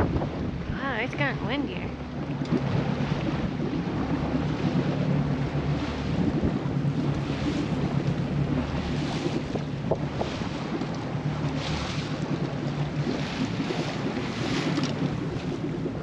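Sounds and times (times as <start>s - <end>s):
water splashing against boat hull: 0.0s - 16.0s
wind buffeting microphone: 0.0s - 16.0s.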